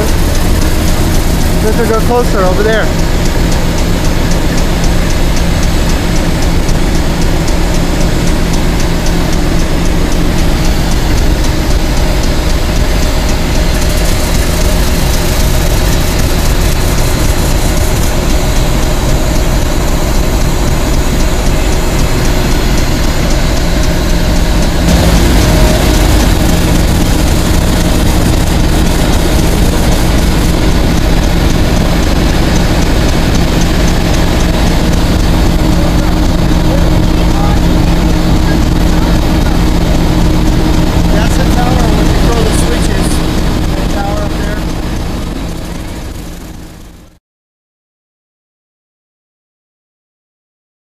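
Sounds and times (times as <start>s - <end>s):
diesel locomotive engine idling: 0.0s - 47.1s.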